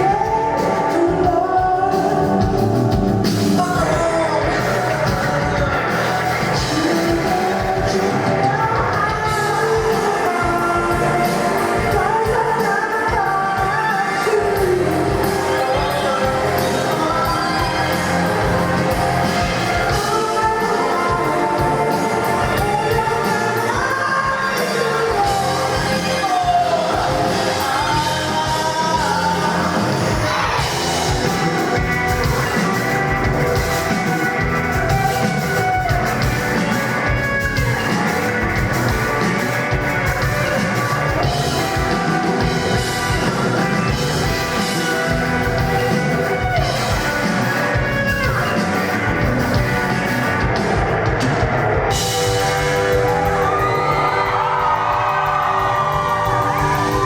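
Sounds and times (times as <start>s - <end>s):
person singing: 0.0s - 51.2s
live rock band playing: 0.0s - 57.0s.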